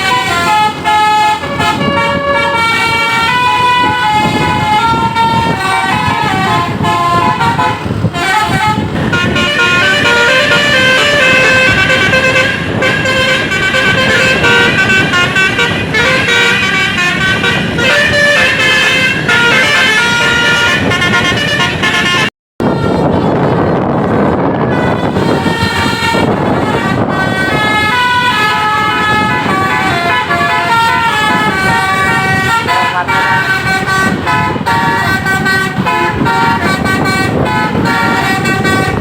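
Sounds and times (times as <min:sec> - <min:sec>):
bus musical horn playing tune: 0:00.0 - 0:39.0.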